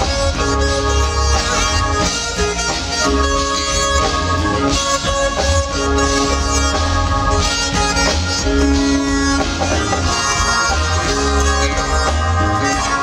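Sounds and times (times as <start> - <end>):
smooth jazz band playing: 0.0 - 13.0.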